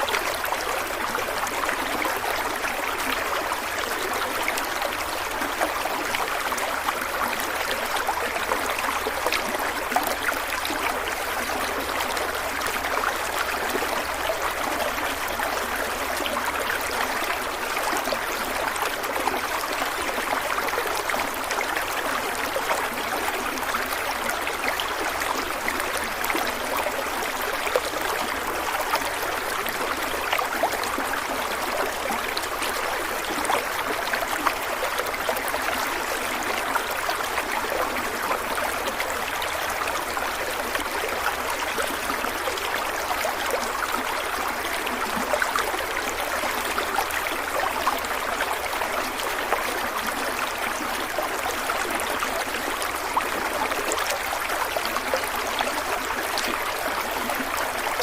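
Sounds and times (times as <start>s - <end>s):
stream of water trickling: 0.0s - 58.0s.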